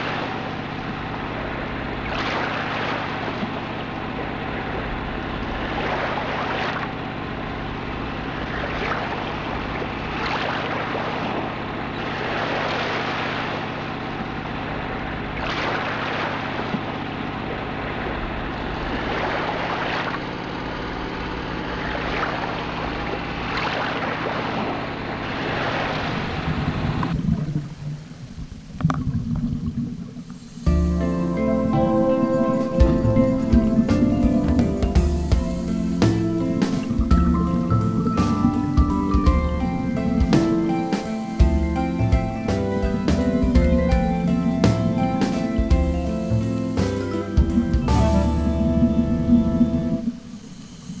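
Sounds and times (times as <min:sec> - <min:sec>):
boat engine running: 0:00.0 - 0:51.0
rushing water: 0:00.0 - 0:51.0
wind: 0:00.0 - 0:51.0.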